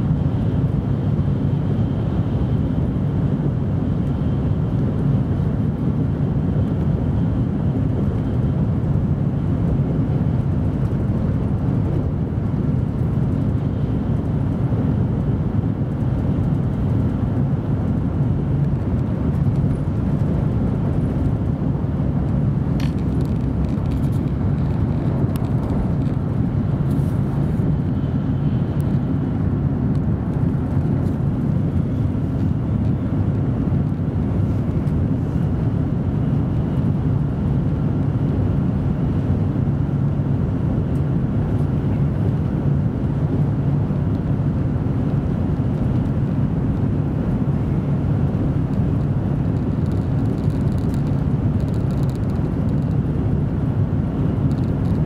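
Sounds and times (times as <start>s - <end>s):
high-speed train cabin rumble: 0.0s - 55.0s.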